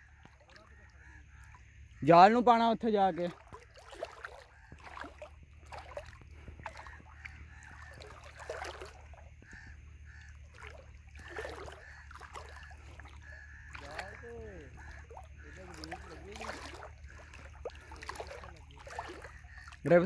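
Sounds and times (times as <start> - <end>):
faint short calls: 0.0 - 20.0
water splashing against boat hull: 0.0 - 20.0.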